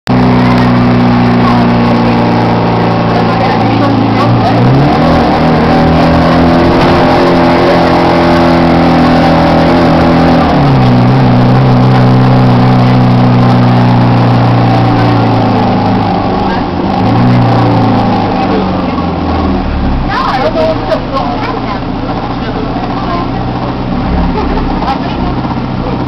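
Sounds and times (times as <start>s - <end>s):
bus diesel engine droning: 0.1s - 26.0s.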